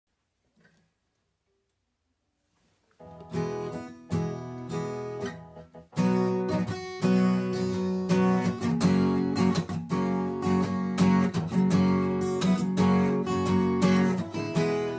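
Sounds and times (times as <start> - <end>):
acoustic guitar: 2.6 - 14.9.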